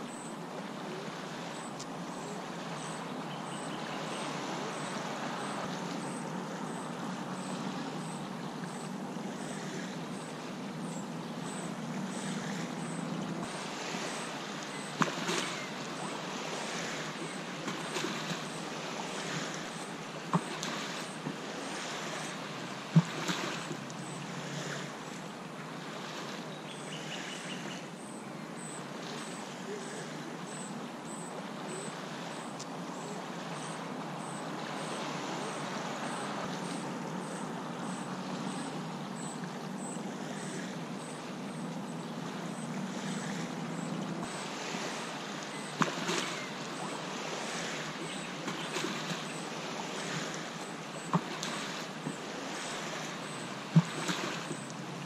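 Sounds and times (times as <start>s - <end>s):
light wind: 0.0s - 55.0s
small waves lapping on shore: 0.0s - 55.0s.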